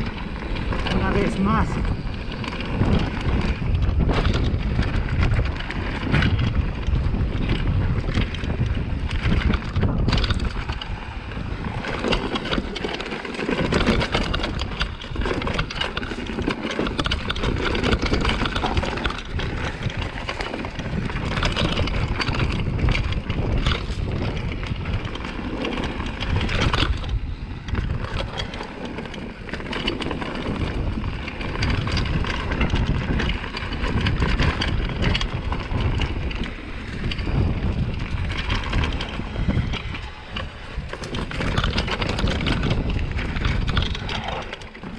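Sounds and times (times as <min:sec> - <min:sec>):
bike clattering and rattling: 0:00.0 - 0:44.9
bike tyre rumble: 0:00.0 - 0:44.9
wind buffeting microphone: 0:00.0 - 0:44.9.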